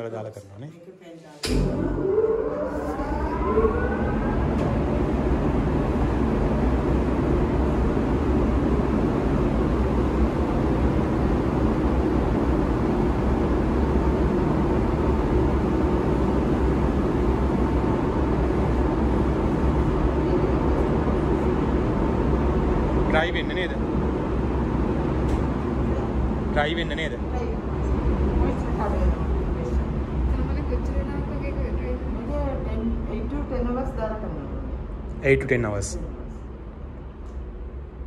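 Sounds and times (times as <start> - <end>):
machinery drone and hum: 1.4 - 38.0
motor whine: 1.5 - 32.4.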